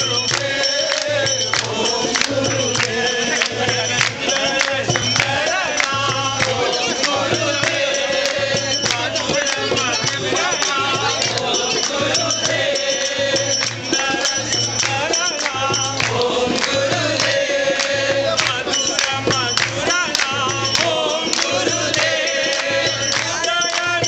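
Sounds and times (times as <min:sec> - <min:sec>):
group singing: 0:00.0 - 0:24.0
jingling hand percussion: 0:00.0 - 0:24.0.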